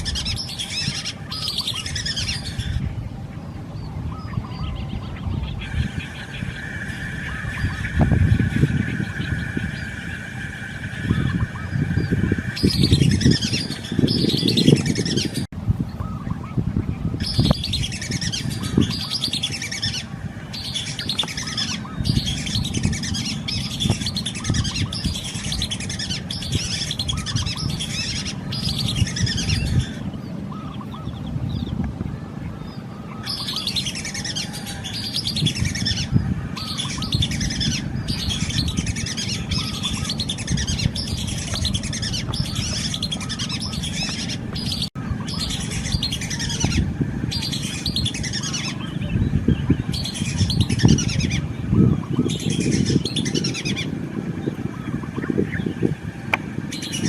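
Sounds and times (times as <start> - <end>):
birds chirping: 0.0 - 57.0
steady low rumble: 0.0 - 57.0.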